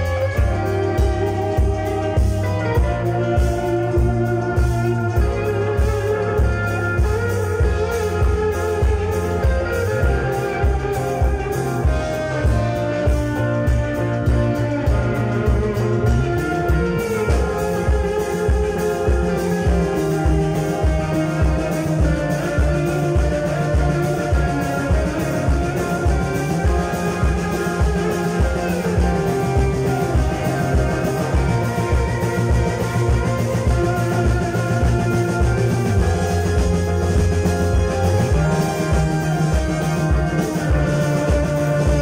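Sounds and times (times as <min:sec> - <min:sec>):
drum kit beat: 0:00.0 - 0:42.0
electric bass: 0:00.0 - 0:42.0
electric guitar: 0:00.0 - 0:42.0.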